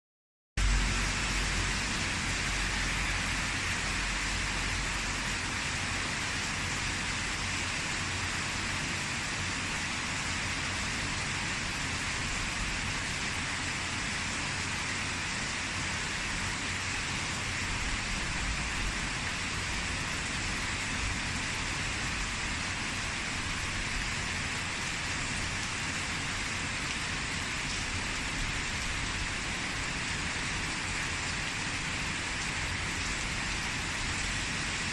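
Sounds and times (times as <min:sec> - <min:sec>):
rain falling steadily: 0:00.6 - 0:34.9.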